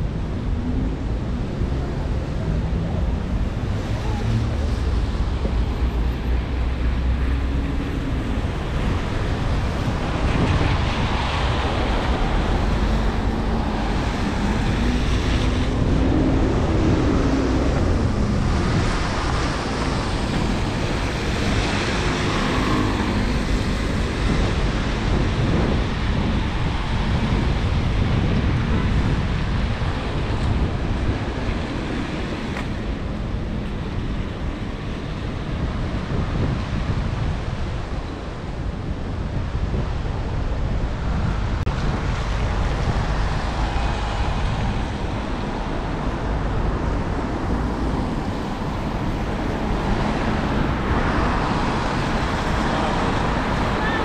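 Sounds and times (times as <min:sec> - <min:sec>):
passing vehicle engines: 0:00.0 - 0:54.0
traffic on wet road: 0:00.0 - 0:54.0.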